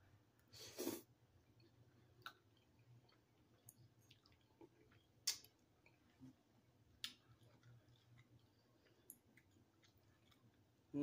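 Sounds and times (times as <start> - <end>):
person chewing noodles: 0.4 - 11.0.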